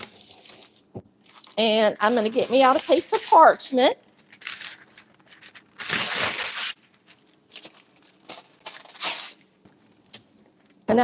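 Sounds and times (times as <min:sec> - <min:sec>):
paper rustling and crinkling: 0:00.0 - 0:09.4.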